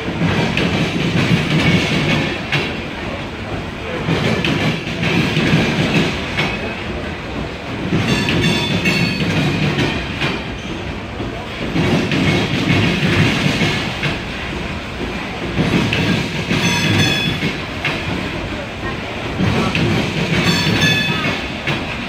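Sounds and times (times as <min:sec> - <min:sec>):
train wheels clattering over rail joints: 0:00.0 - 0:22.0.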